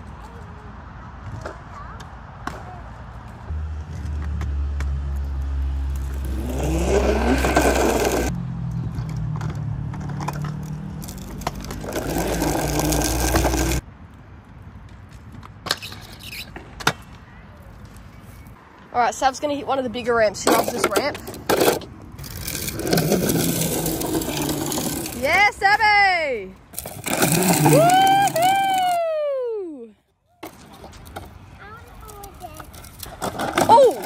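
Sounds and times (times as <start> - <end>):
scooter wheels rolling on concrete: 0.0 - 34.0.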